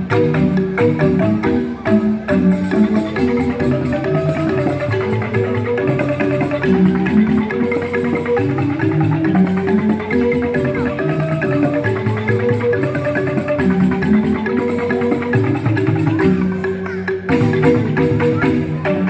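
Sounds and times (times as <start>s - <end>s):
bamboo xylophones played with mallets: 0.0s - 19.0s.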